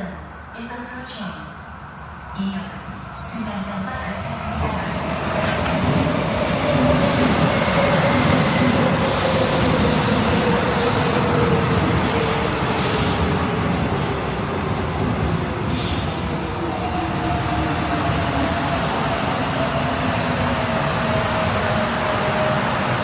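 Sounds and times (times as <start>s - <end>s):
train wheels rumbling on rails: 3.9s - 23.0s.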